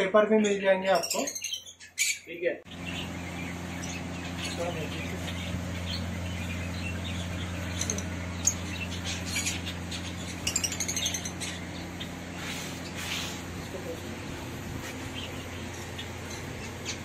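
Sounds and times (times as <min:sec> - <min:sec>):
lovebirds chirping: 0:00.0 - 0:17.0
steady low hum: 0:02.6 - 0:17.0.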